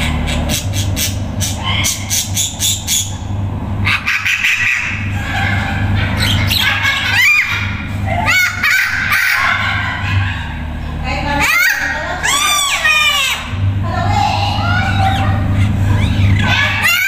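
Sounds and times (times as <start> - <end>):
parrot squawking: 0.0 - 17.0
steady low hum: 0.0 - 17.0.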